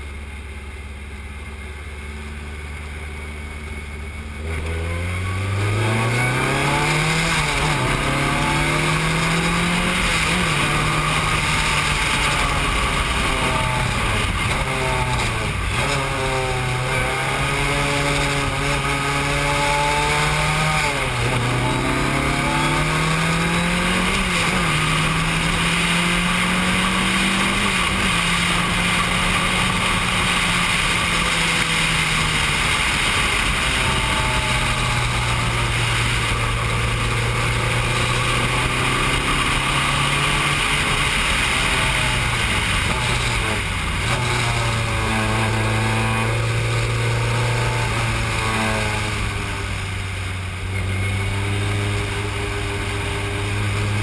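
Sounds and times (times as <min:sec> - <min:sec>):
racing car engine revving: 0:04.3 - 0:54.0.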